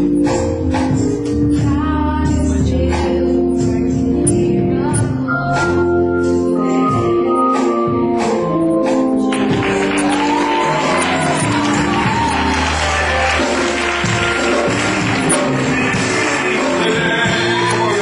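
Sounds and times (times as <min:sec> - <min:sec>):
gospel music with organ and singing: 0:00.0 - 0:18.0.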